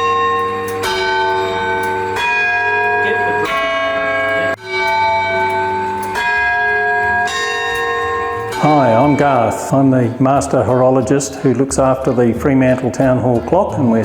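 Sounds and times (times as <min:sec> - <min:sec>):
clock tower bells chiming: 0:00.0 - 0:14.0.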